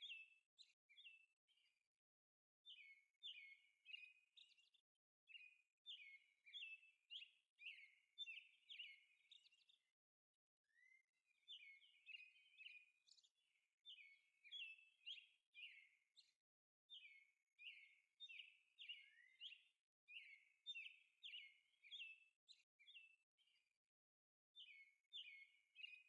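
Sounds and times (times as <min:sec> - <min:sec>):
faint birds chirping: 0:00.0 - 0:01.9, 0:02.6 - 0:10.0, 0:10.6 - 0:23.8.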